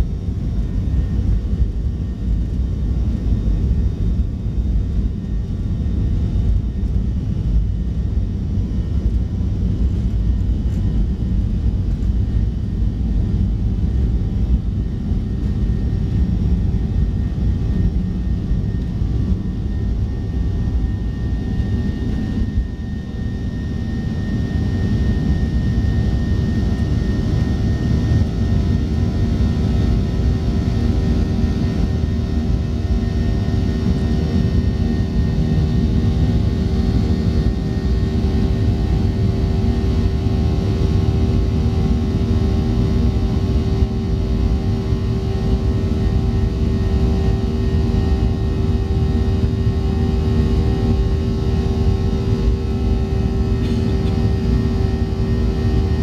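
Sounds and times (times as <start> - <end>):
higher steady whine: 0.0 - 56.0
jet engine rumble in cabin: 0.0 - 56.0.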